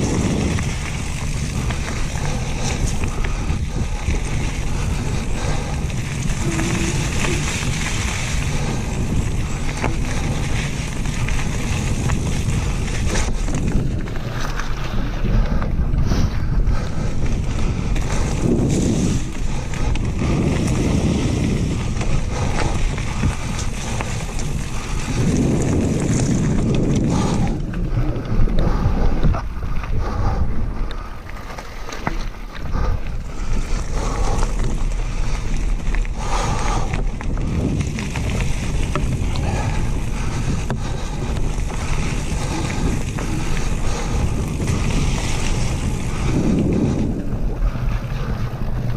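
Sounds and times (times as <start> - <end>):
wind rumbling on microphone: 0.0 - 48.9.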